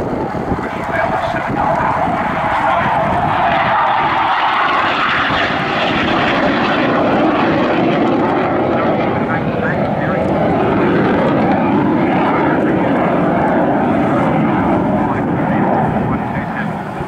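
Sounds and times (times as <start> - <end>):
jet flying overhead: 0.0 - 17.0.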